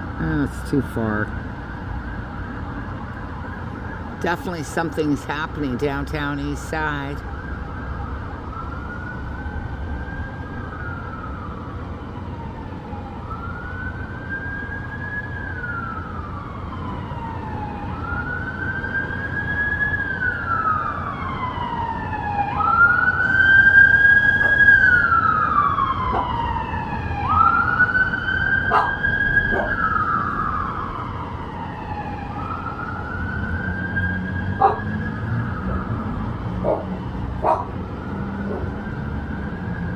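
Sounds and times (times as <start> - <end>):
emergency siren wailing: 0.0 - 39.9
low city rumble: 0.0 - 39.9.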